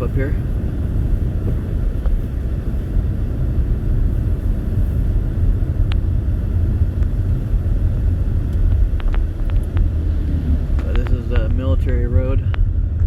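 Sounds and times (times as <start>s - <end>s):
car cabin engine and tyre rumble: 0.0s - 13.0s.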